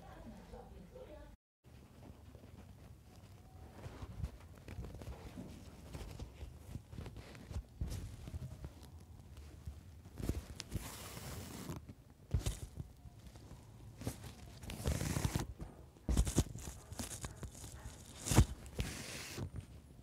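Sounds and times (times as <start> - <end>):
fabric rustling: 2.2 - 19.8.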